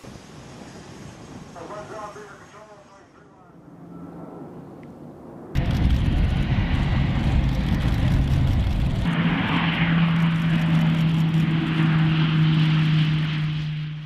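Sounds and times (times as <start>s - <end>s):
turboprop engines and propellers: 0.0s - 14.0s.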